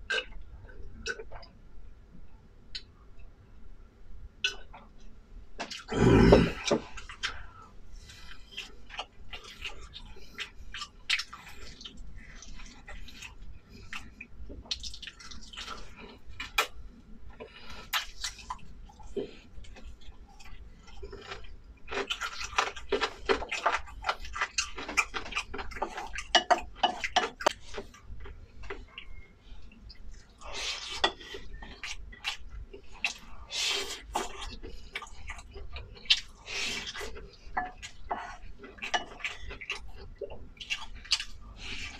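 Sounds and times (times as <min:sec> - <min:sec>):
person chewing with mouth clicks: 0:00.0 - 0:01.6, 0:04.4 - 0:41.9.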